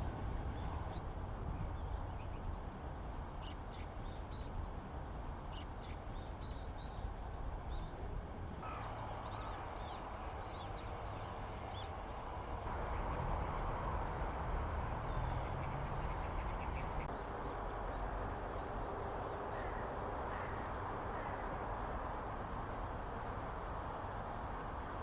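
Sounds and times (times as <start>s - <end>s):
steady background hiss: 0.0s - 25.0s.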